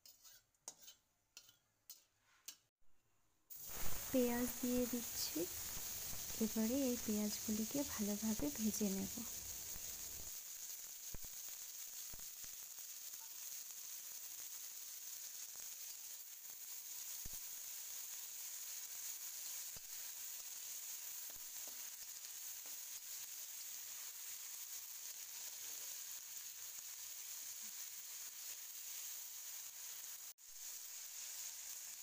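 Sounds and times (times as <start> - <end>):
onions sizzling in hot oil: 0.0 - 2.6, 3.5 - 32.0.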